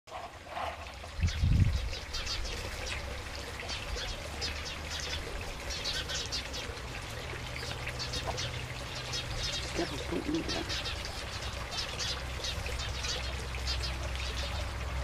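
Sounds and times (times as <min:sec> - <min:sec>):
small birds chirping: 0:01.1 - 0:15.0.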